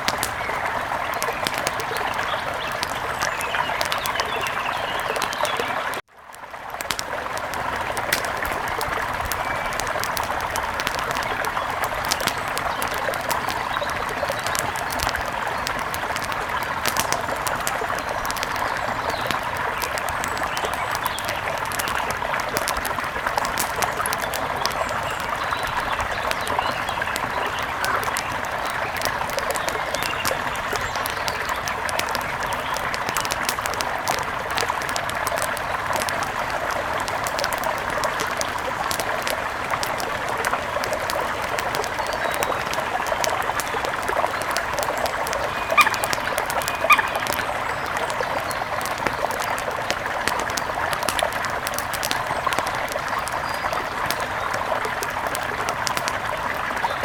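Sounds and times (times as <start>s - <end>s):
birds chirping: 0.0s - 6.0s, 7.8s - 55.4s.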